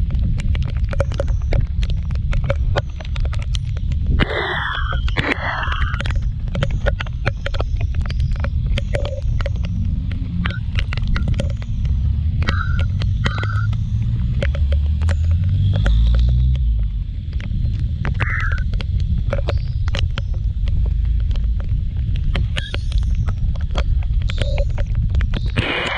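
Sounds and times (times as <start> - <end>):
raindrops ticking on microphone: 0.0 - 25.6
scooter engine rumble: 0.0 - 25.9.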